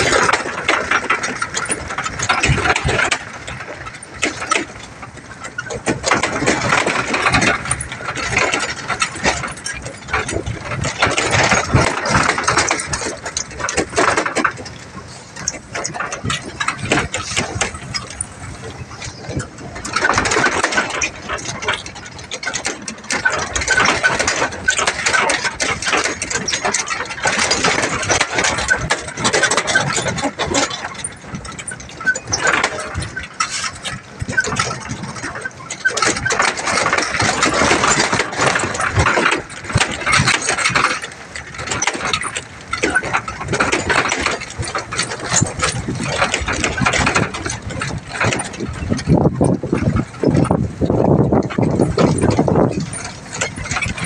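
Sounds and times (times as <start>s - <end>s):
lumber load clattering and banging: 0.0s - 54.0s
truck body jolting over bumps: 0.0s - 54.0s
truck engine running: 0.0s - 54.0s.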